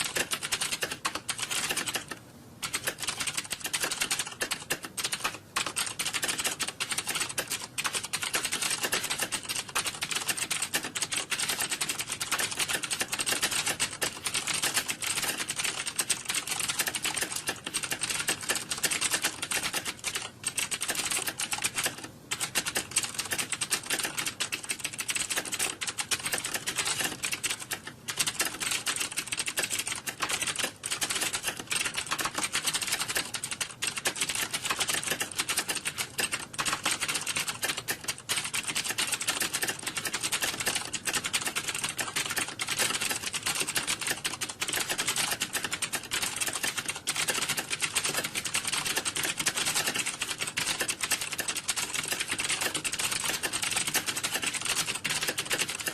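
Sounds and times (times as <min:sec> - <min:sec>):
fast typing on keyboard: 0:00.0 - 0:55.9.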